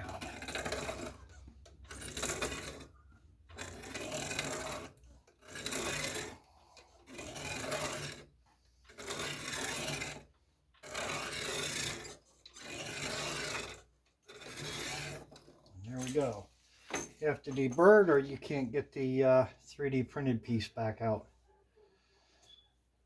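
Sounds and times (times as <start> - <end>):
deburring tool scraping metal tube: 0.0 - 18.7.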